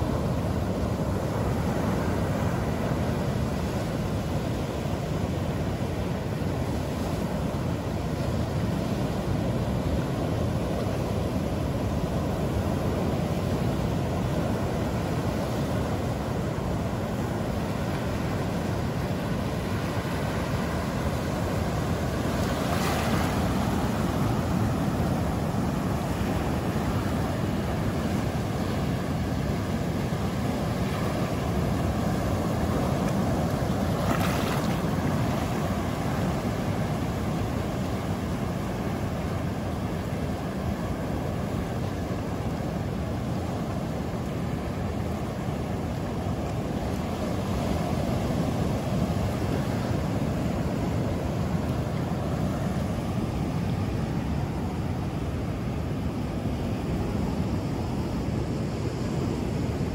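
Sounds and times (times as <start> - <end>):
ocean surf washing on beach: 0.0 - 59.9.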